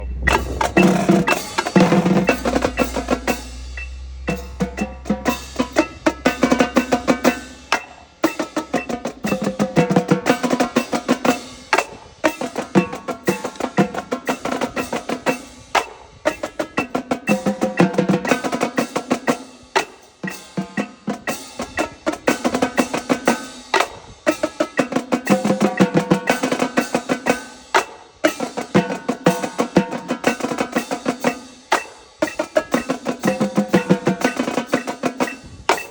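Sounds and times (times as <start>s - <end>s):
marching tenor drums cadence: 0.0s - 35.9s.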